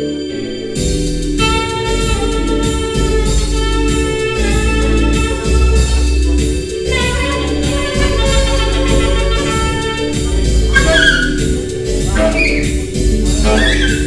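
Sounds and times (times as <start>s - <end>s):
plucked bass: 0.8s - 14.0s
tenor saxophone long notes: 1.4s - 14.0s.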